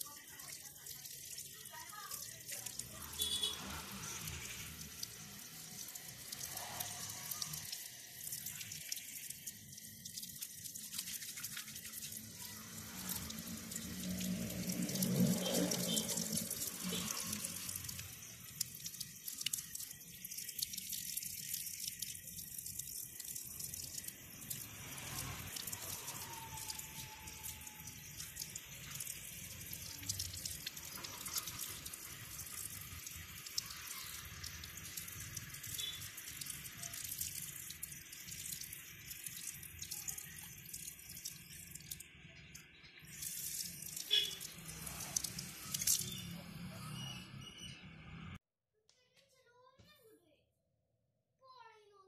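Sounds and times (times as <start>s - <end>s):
running water splashing: 0.0s - 46.6s
water dripping and spattering: 0.0s - 47.5s.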